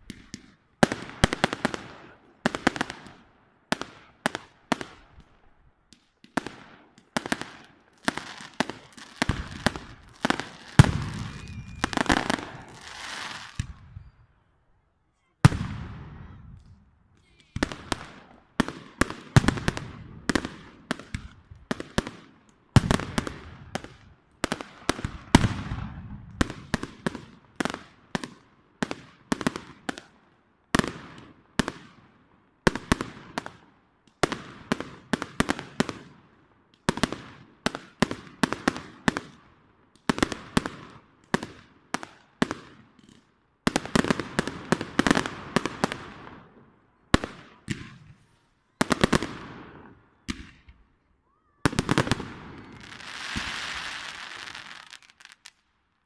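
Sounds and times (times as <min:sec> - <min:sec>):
fireworks bursting: 0:00.0 - 0:14.5, 0:15.2 - 0:30.1, 0:32.7 - 0:55.7.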